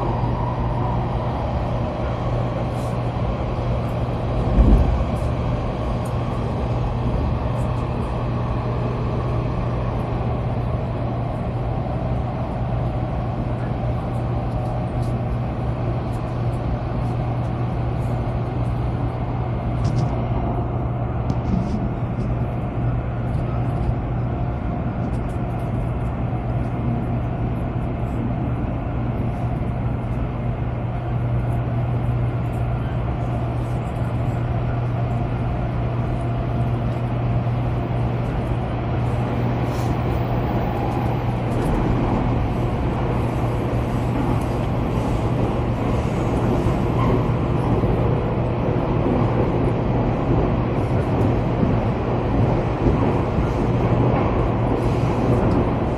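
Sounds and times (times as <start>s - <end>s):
low train hum: 0.0s - 55.9s.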